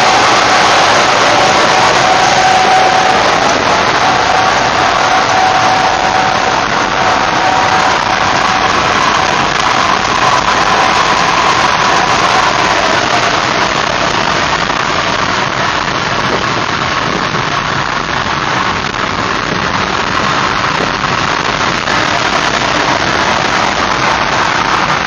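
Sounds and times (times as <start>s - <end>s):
car engine hum: 0.0s - 25.0s
tractor-trailer passing close: 0.0s - 25.0s.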